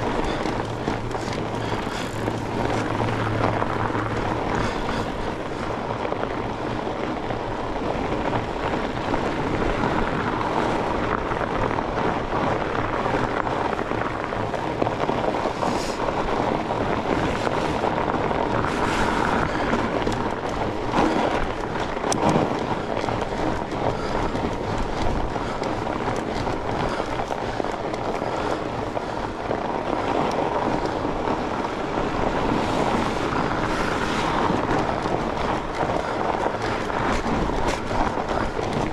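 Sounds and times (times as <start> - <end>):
bike tyres rumbling on trail: 0.0 - 38.9.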